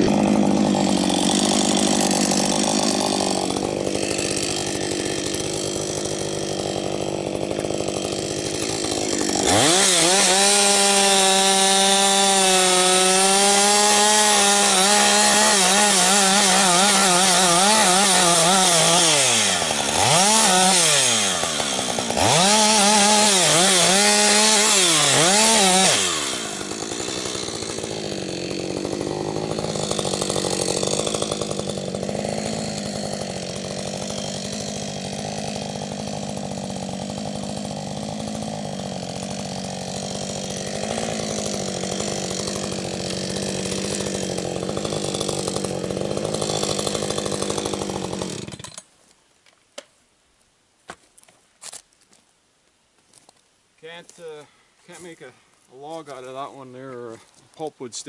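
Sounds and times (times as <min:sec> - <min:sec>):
chainsaw idling: 0:00.0 - 0:48.9
chainsaw cutting through wood: 0:00.0 - 0:49.0, 0:53.8 - 0:58.0.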